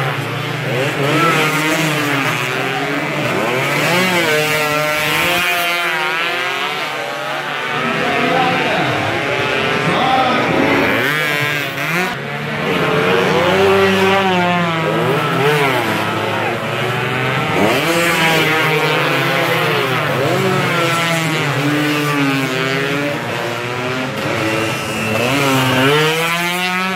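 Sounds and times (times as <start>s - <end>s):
racing motorcycles passing: 0.0s - 26.9s.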